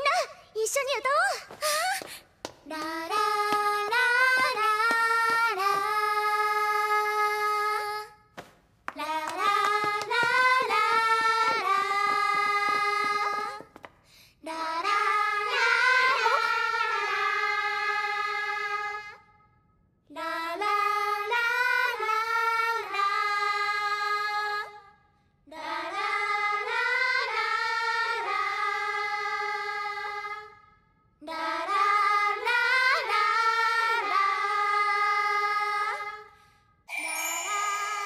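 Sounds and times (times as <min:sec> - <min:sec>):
young voices singing together: 0:02.6 - 0:08.2, 0:08.9 - 0:13.8, 0:14.4 - 0:19.4, 0:20.1 - 0:38.0.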